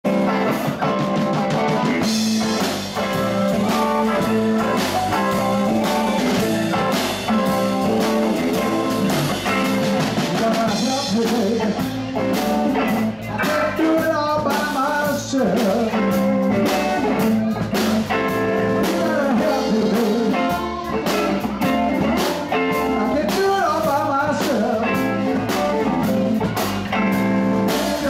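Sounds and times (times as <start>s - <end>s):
bass guitar: 0.0s - 28.0s
drum kit beat: 0.0s - 28.0s
electric guitar: 0.0s - 28.0s
keyboard: 0.0s - 28.0s.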